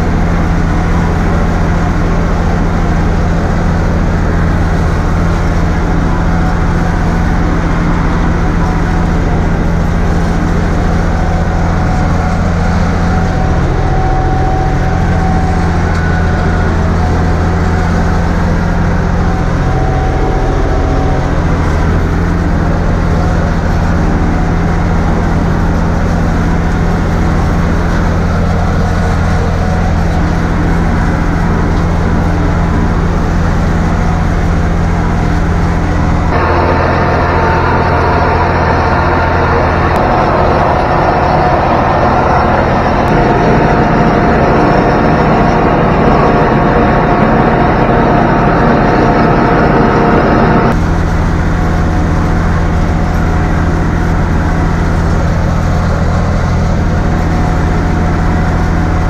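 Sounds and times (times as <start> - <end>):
tractor diesel engine humming: 0.0 - 59.0.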